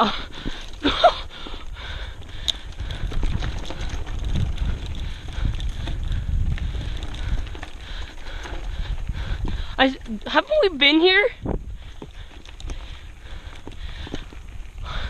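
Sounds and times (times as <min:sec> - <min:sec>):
bike rattling and clicking: 0:00.0 - 0:15.0
wind buffeting microphone: 0:00.0 - 0:15.0.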